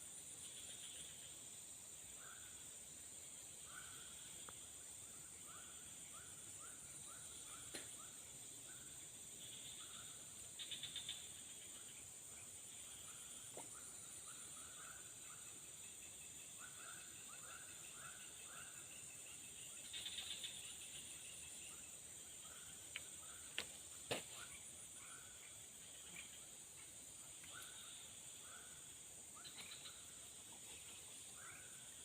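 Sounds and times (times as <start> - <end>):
short insect call: 0.0 - 32.0.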